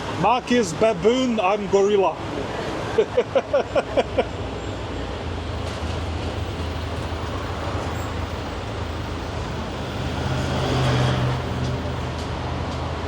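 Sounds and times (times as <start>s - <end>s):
road hiss: 0.0s - 13.0s.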